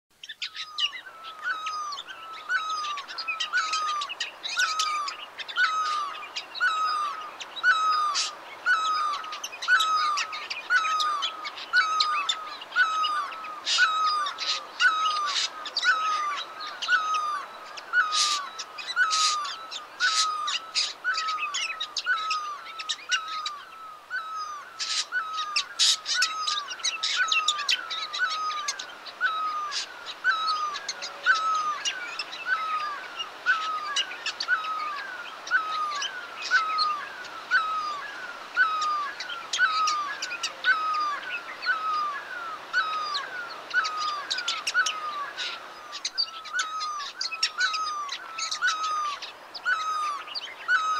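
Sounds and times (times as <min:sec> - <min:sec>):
birds chirping: 0:00.1 - 0:50.9.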